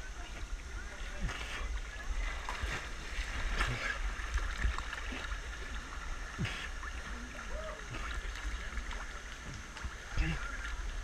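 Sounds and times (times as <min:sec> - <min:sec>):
rush of flowing water: 0:00.0 - 0:11.0
small splashes: 0:00.0 - 0:11.0
water sloshing and gurgling: 0:00.0 - 0:11.0.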